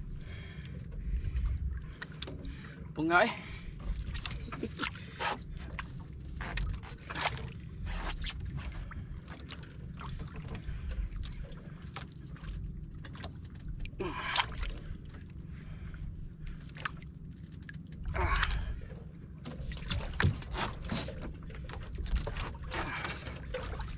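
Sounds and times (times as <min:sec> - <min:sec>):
steady low rumble: 0:00.0 - 0:23.9
water sloshing against boat hull: 0:00.0 - 0:23.9.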